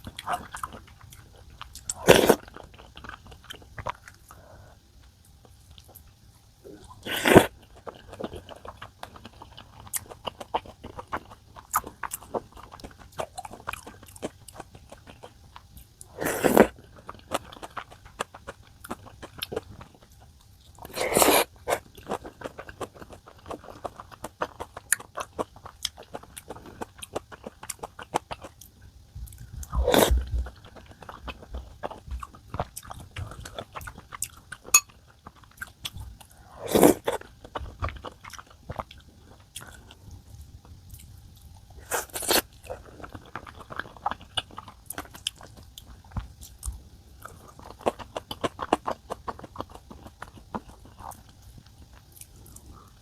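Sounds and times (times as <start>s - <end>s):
chewing with mouth clicks: 0.0s - 53.0s.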